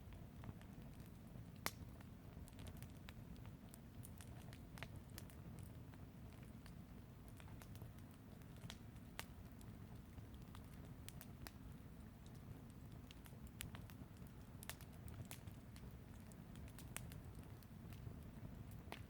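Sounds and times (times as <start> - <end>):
fire crackling with pops: 0.0 - 19.0.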